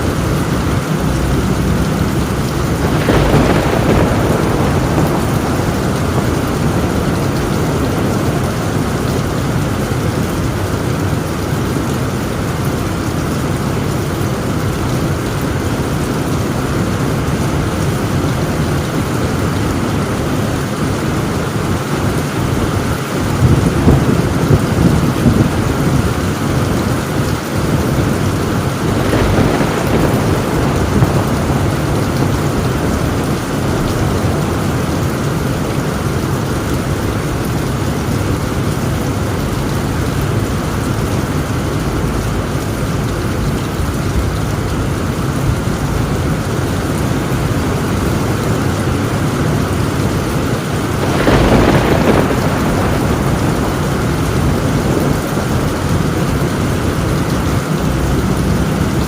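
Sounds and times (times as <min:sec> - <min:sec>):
heavy rain on a tin roof: 0:00.0 - 0:59.0
thunder: 0:00.0 - 0:59.0.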